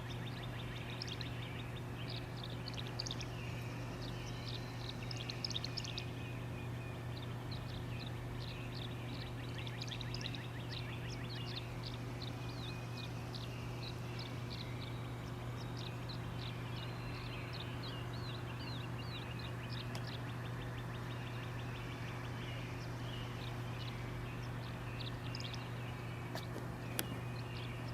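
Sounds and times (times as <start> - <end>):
steady low hum: 0.0 - 27.9
swallow twittering: 0.0 - 27.9.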